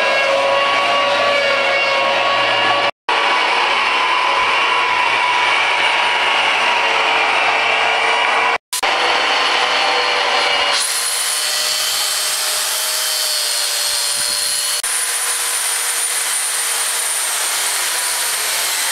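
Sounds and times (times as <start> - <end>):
angle grinder motor whine: 0.0 - 18.9
grinding wood: 0.0 - 18.9.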